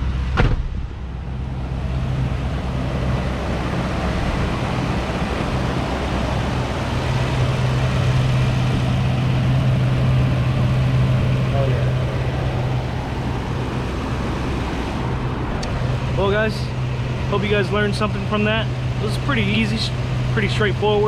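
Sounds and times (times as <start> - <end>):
engine running with low hum: 0.0 - 21.0.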